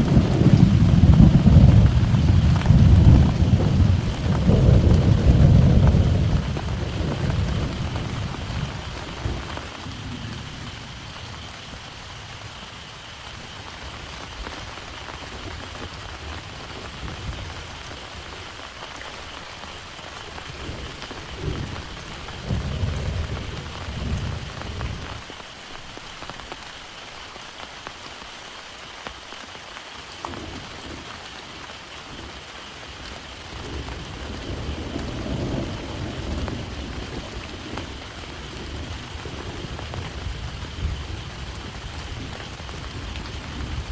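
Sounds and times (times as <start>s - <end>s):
thunder rumbling: 0.0s - 26.6s, 30.3s - 43.9s
heavy rain: 0.0s - 43.9s.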